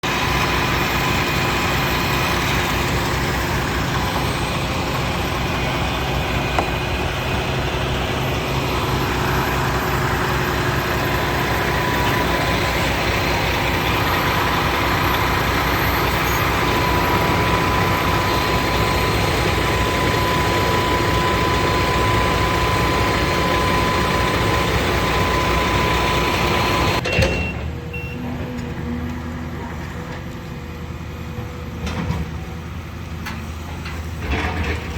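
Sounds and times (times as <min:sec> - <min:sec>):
heavy machinery engine whining: 0:00.0 - 0:34.9.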